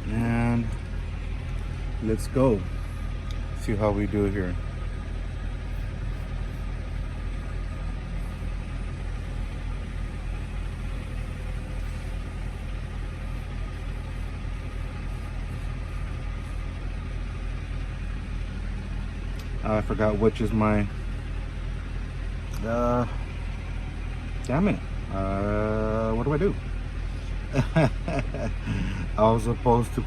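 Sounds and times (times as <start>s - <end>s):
truck diesel engine idling: 0.0s - 30.0s.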